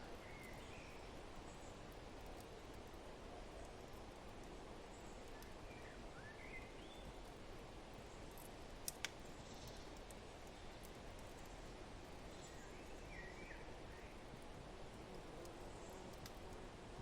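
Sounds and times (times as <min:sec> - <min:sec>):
wood fire crackles: 0:00.0 - 0:17.0.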